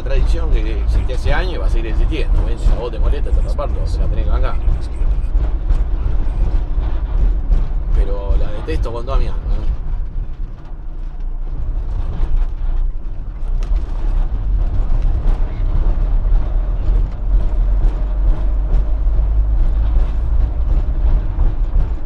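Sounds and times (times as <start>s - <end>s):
van engine and road rumble: 0.0s - 22.0s.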